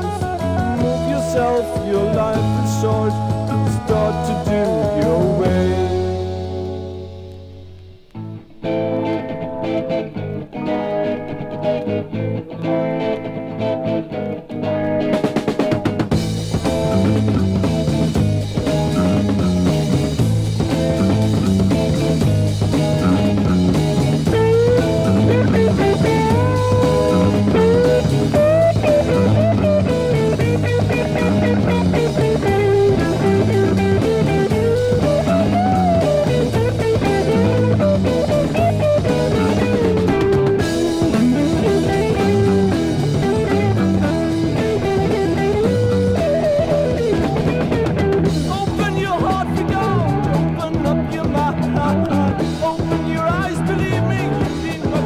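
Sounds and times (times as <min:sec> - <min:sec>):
drum kit: 0:00.0 - 0:10.1, 0:14.7 - 0:55.0
bass guitar: 0:00.0 - 0:55.0
lead guitar melody: 0:00.0 - 0:55.0.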